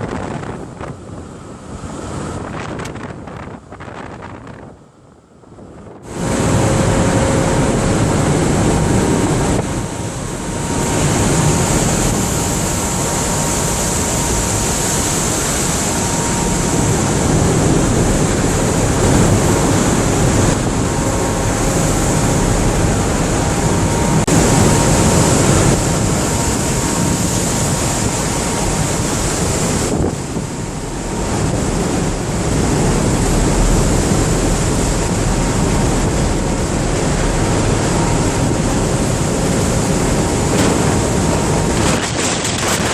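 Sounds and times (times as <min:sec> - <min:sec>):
wind buffeting microphone: 0:00.0 - 0:42.9
sea water rushing: 0:06.0 - 0:42.9.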